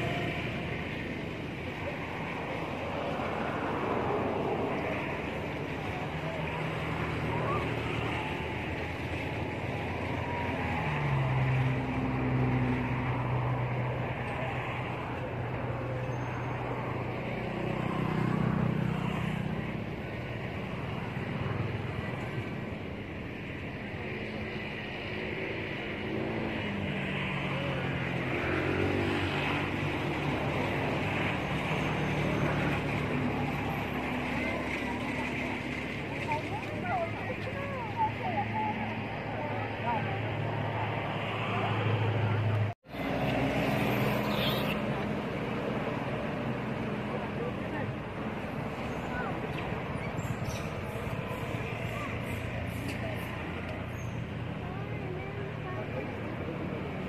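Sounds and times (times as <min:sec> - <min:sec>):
drone of vehicle engines: 0:00.0 - 0:57.0.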